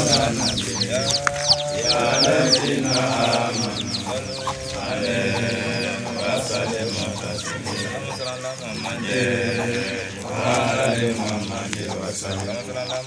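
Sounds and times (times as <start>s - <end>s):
drawn-out lower animal calls: 0.0s - 13.0s
rapid high chirps: 0.0s - 13.0s.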